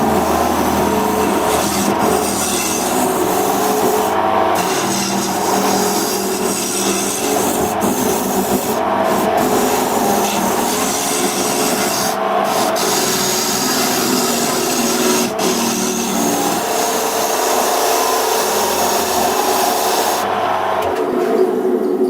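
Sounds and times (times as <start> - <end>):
electric woodworking tool cutting wood: 0.0 - 21.2.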